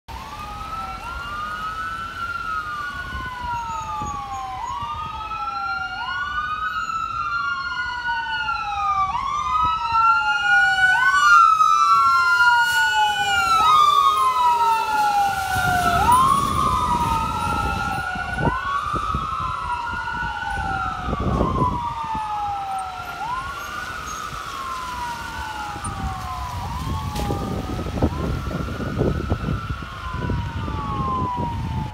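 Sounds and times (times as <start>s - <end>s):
fire engine siren wailing: 0.1s - 31.9s
truck engine and tyres rumbling: 0.1s - 31.9s.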